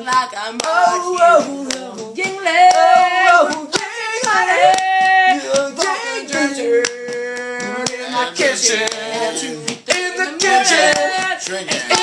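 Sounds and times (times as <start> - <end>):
hand claps: 0.0 - 12.0
voices singing a drinking song: 0.0 - 12.0.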